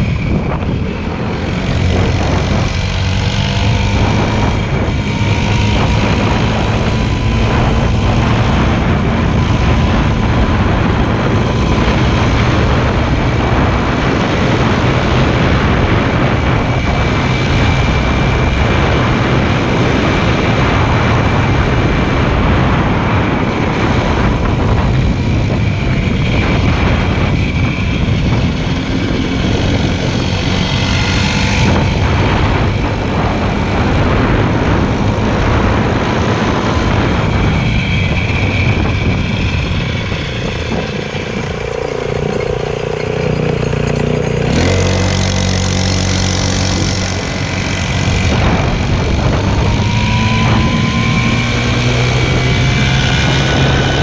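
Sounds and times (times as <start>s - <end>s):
motorcycle engine running: 0.0s - 54.0s
wind rushing noise: 0.0s - 54.0s.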